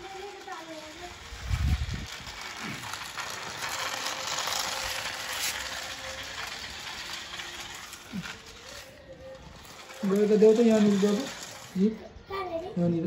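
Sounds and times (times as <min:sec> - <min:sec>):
toy car motor whirring: 0:00.0 - 0:12.9.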